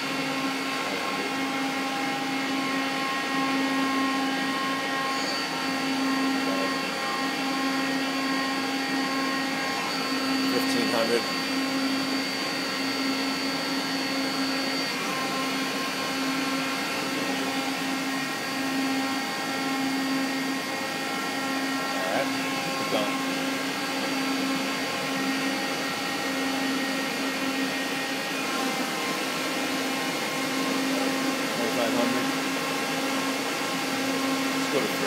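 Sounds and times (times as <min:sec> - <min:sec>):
lathe machine hum: 0:00.0 - 0:35.0.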